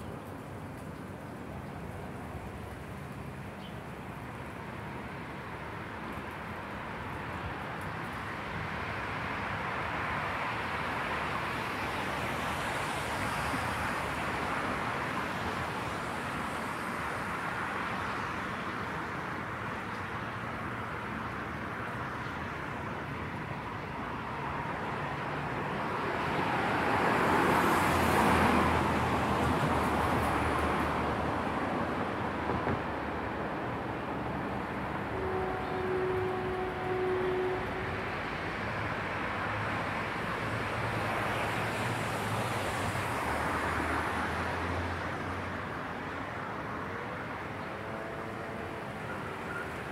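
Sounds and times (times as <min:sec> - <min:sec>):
distant road traffic: 0:00.0 - 0:49.9.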